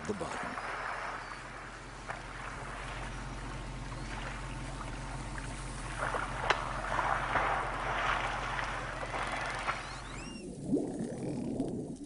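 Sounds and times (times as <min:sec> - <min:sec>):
steady low hum: 0:00.0 - 0:12.0
water splashing and sloshing: 0:00.0 - 0:12.0.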